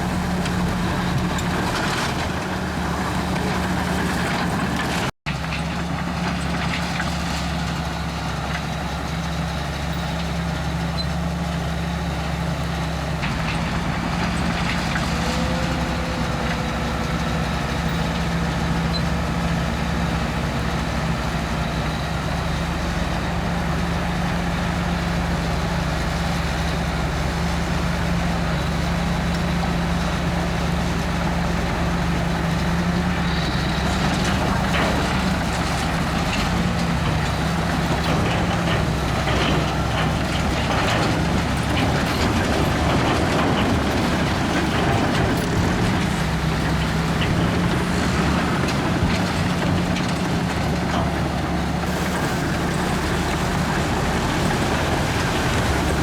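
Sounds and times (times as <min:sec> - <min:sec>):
bulldozer diesel engine running: 0:00.0 - 0:56.0
clanking and scraping of tracks: 0:00.0 - 0:56.0.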